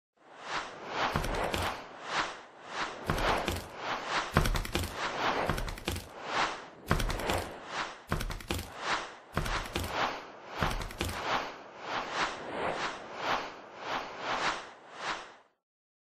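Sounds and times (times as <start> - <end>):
rhythmic whooshes: 0.6 - 15.3.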